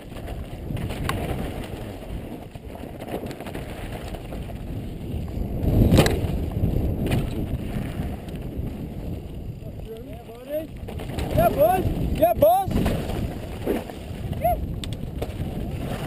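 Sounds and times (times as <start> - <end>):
bike rattling: 0.0 - 16.0
wind on microphone: 0.0 - 16.0.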